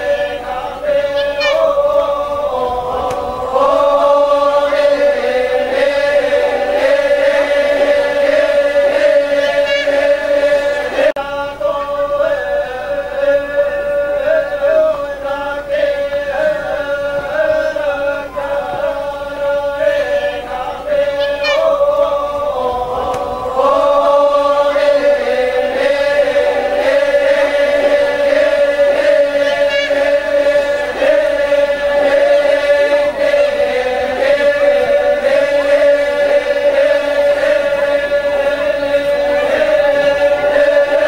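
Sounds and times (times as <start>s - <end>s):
group of voices chanting: 0.0s - 41.0s.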